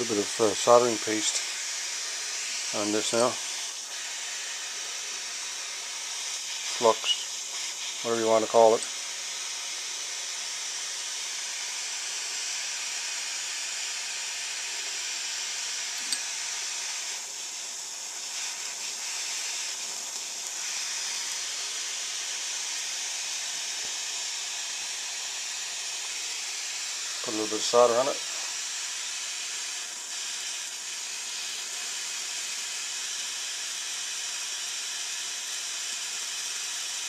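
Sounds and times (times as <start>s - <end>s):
propane torch hissing: 0.0s - 37.0s.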